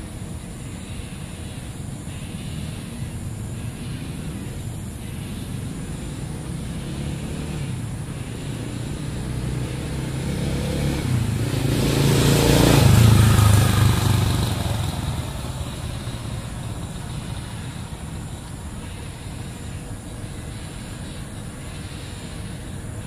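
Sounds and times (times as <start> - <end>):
motor vehicle passing by: 2.4 - 23.0.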